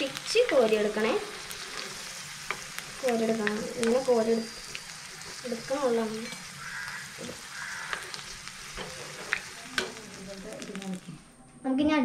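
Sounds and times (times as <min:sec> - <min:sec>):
chicken sizzling in hot oil: 0:00.0 - 0:11.3.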